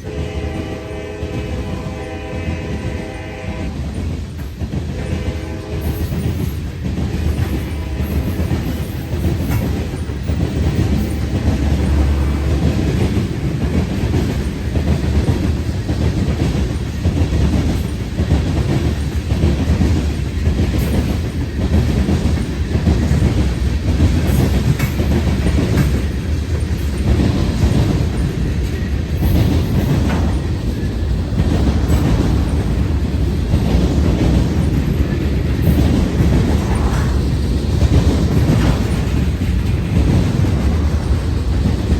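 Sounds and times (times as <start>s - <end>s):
freight train cars rumbling: 0.0s - 41.9s
wheels clacking over rail joints: 0.0s - 41.9s.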